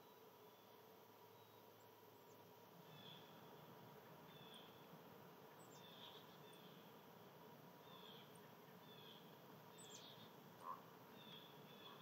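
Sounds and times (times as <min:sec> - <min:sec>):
quiet outdoor hiss: 0:00.0 - 0:12.0
songbird chirps: 0:00.0 - 0:12.0.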